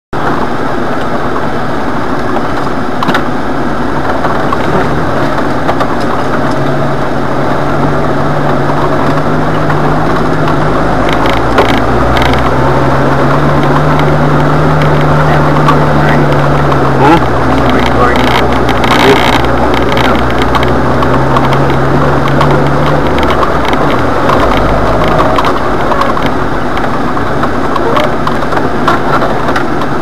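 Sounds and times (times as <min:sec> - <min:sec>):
knocks and rattles over ruts: 0:00.1 - 0:30.0
off-road vehicle engine running: 0:00.1 - 0:30.0.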